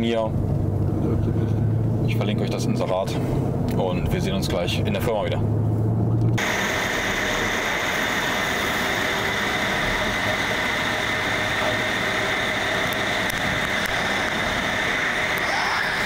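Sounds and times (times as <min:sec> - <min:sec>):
car road and wind noise: 0:00.0 - 0:16.0.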